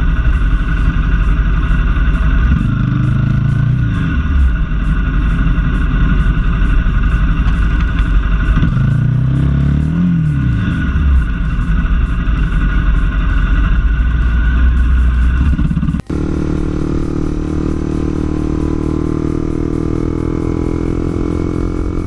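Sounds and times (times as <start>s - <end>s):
different engine running: 0.0s - 22.0s
motorcycle engine running: 0.0s - 22.0s.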